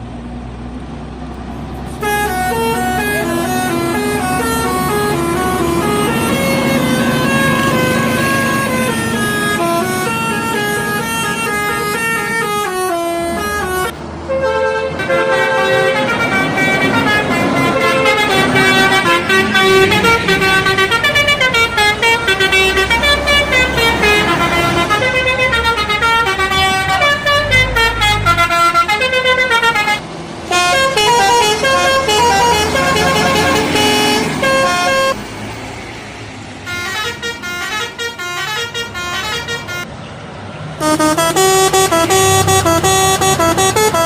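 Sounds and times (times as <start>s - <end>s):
bus engine rumbling: 0.0s - 44.0s
multi-trumpet bus air horns: 1.9s - 35.3s, 36.6s - 39.9s, 40.8s - 44.0s.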